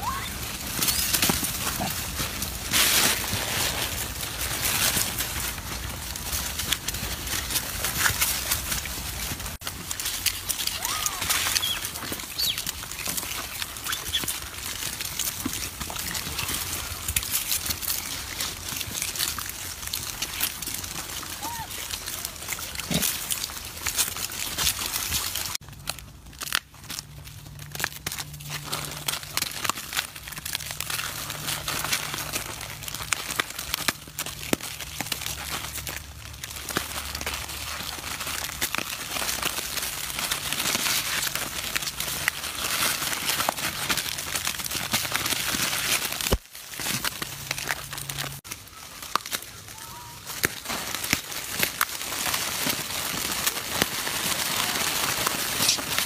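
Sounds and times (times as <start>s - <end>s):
plastic wrappers crinkling: 0.0s - 56.0s.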